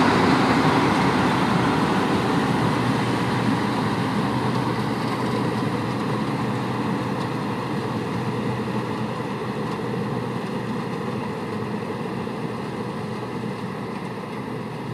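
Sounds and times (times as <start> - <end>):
combine harvester running: 0.0 - 14.9.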